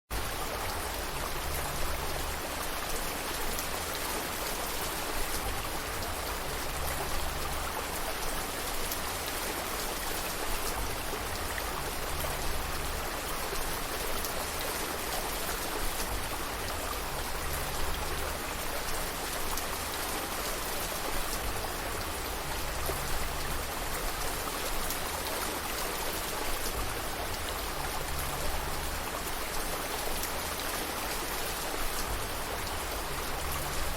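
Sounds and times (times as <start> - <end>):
raindrops dripping: 0.1 - 33.9
steady rain hiss: 0.1 - 33.9.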